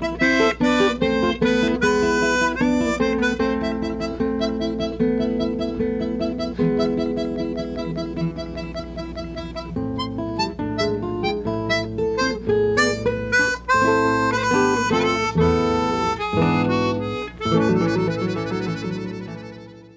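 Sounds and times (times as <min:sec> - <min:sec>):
fingerpicked acoustic guitar: 0:00.0 - 0:19.9
harmonica melody: 0:00.0 - 0:19.9.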